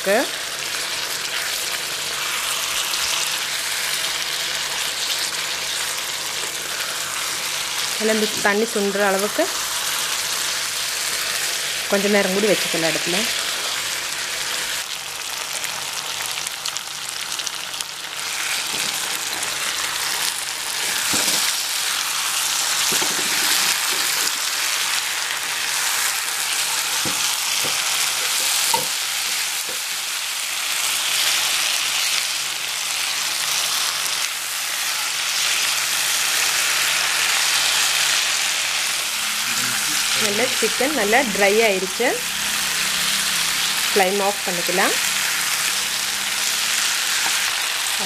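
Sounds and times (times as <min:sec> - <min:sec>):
chicken sizzling in a pan: 0:00.0 - 0:48.0.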